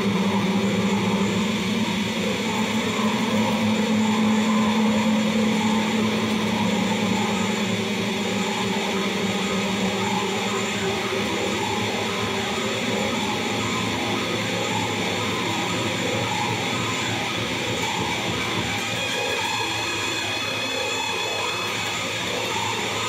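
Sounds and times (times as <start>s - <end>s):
distorted electric guitar noise: 0.0s - 23.0s
low drone: 0.0s - 23.0s.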